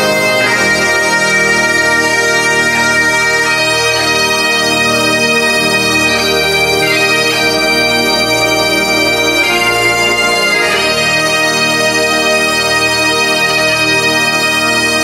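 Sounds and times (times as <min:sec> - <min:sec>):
bagpipe drones: 0:00.0 - 0:15.0
bagpipe melody: 0:00.0 - 0:15.0.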